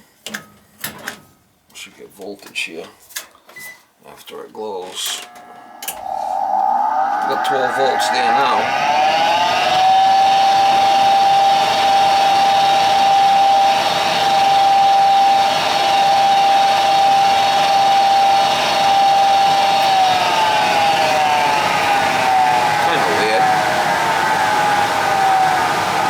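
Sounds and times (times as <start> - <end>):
furnace fan motor whining: 5.0 - 26.0.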